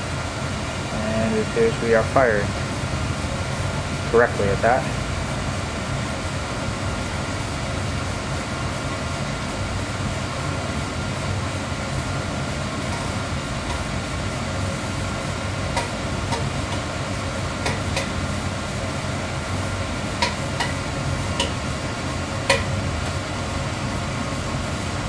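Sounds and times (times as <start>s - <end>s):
oil burner running: 0.0s - 25.0s.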